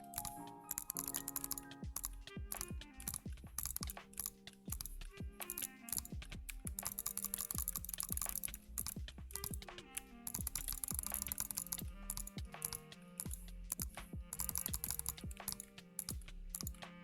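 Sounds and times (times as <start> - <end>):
electronic music: 0.0 - 17.0
rapid keyboard-like clicking: 0.0 - 17.0.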